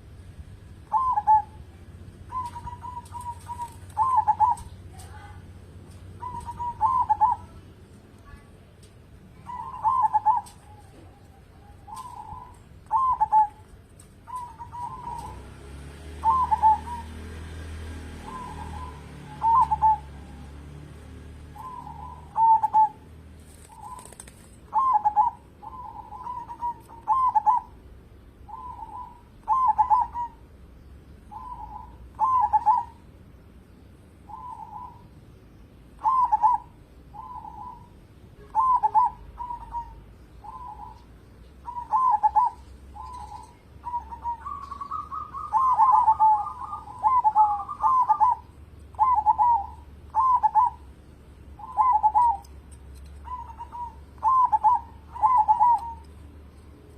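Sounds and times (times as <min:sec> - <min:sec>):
dove cooing: 0:00.7 - 0:07.7, 0:09.3 - 0:27.8, 0:28.4 - 0:30.5, 0:31.3 - 0:33.0, 0:34.3 - 0:35.1, 0:36.0 - 0:56.9.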